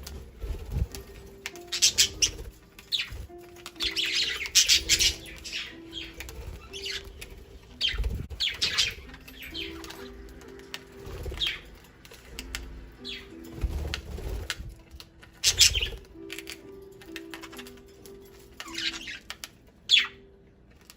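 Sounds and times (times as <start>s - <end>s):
budgerigars chirping and squawking: 0.0s - 14.6s, 15.2s - 20.3s
background music: 0.0s - 20.9s.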